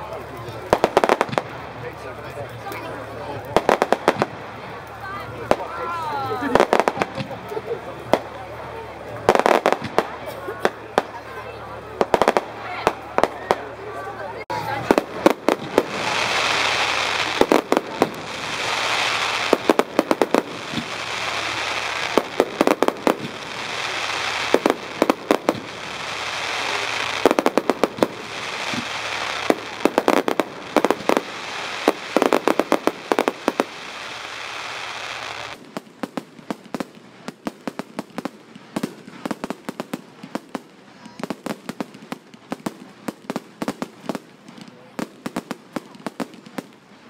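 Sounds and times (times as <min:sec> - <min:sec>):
fireworks bangs and crackles: 0:00.0 - 0:47.0
steady hiss: 0:00.0 - 0:47.0.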